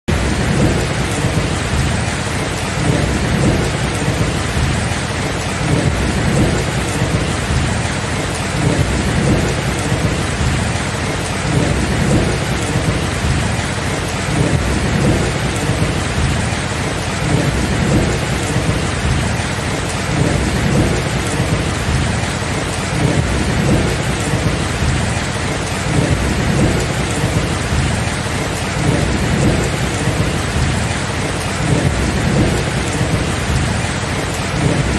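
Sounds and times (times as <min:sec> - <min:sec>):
heavy rain hissing: 0:00.1 - 0:34.9
low rolling thunder: 0:00.1 - 0:34.9.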